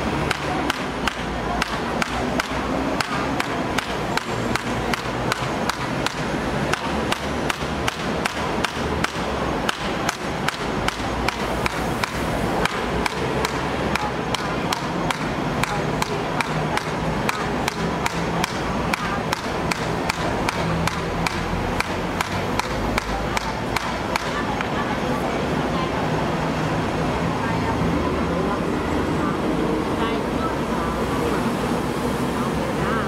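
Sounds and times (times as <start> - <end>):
low traffic rumble: 0.0 - 33.0.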